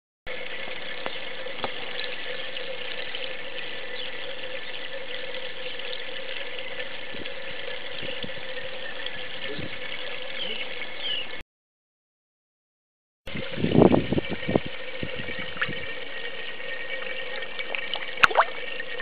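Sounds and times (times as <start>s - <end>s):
water splashing and trickling: 0.3s - 11.4s, 13.3s - 19.0s.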